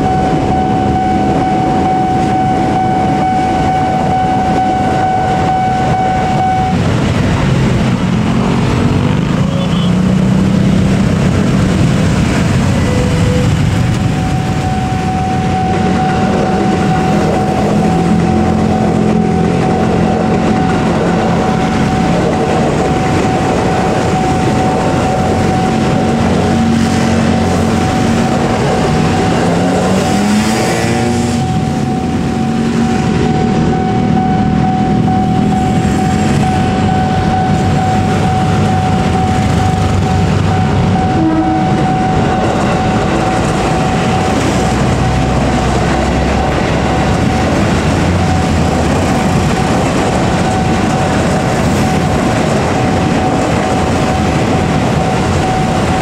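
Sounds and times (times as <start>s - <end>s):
steady high tone: 0.0s - 7.9s, 11.2s - 56.0s
electric train passing: 0.0s - 56.0s
motorcycle and car engines: 0.0s - 56.0s.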